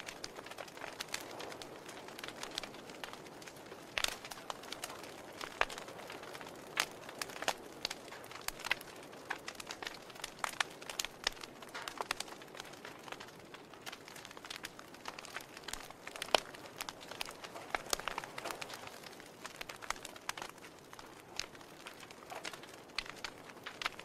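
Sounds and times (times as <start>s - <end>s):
burning logs crackling: 0.0s - 24.0s
faint fire hiss: 0.0s - 24.0s.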